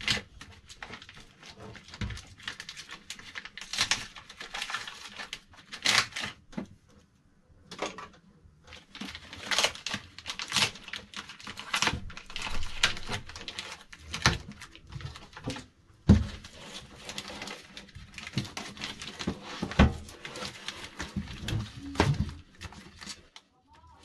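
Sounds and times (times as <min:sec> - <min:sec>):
packaging crinkling and rustling: 0:00.0 - 0:07.0, 0:07.7 - 0:24.0.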